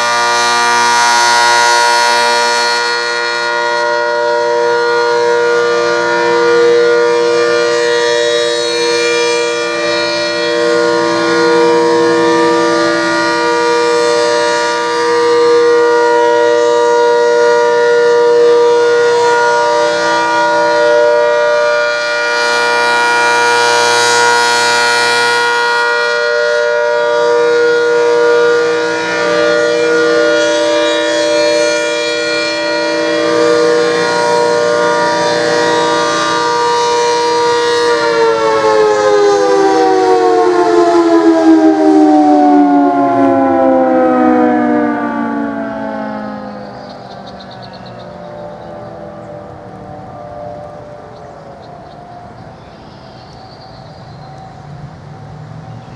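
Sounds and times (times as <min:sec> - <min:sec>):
warning siren steady chord: 0:00.0 - 0:55.9.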